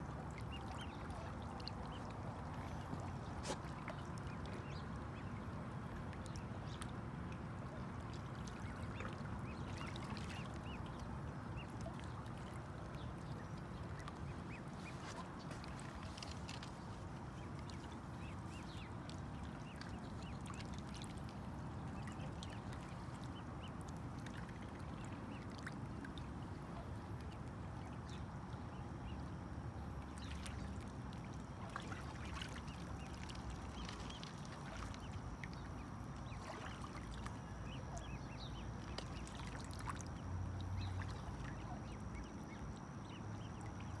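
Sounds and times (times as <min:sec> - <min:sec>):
water birds quacking: 0:00.0 - 0:29.4, 0:30.0 - 0:44.0.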